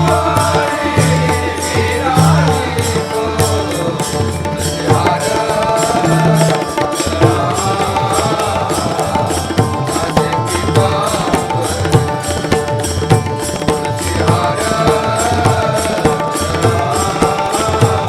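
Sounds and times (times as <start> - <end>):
hand drum beat: 0.0 - 18.0.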